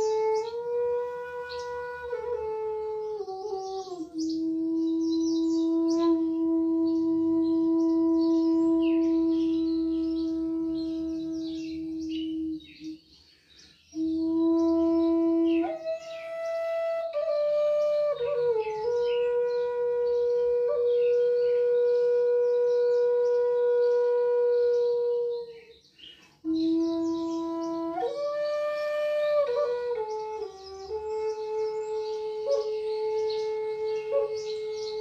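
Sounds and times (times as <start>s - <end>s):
wooden flute slow melody: 0.0s - 35.0s.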